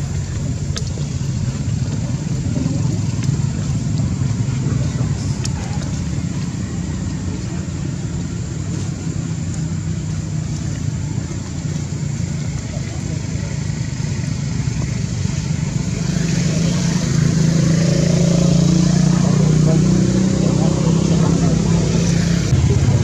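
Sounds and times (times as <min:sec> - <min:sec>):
low outdoor background rumble: 0:00.0 - 0:23.0.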